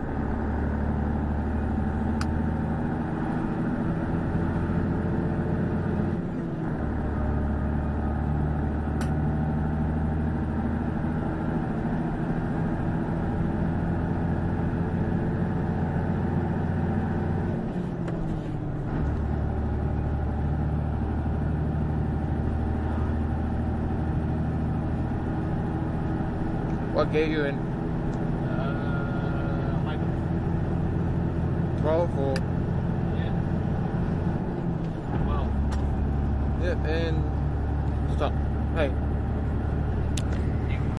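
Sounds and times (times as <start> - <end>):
truck diesel engine under load: 0.0 - 40.9.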